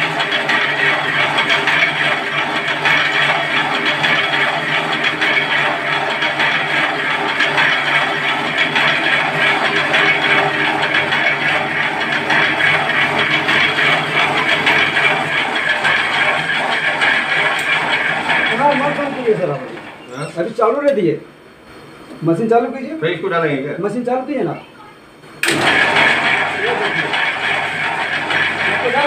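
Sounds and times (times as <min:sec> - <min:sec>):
noodle machine whirring: 0:00.0 - 0:21.0, 0:25.2 - 0:29.0.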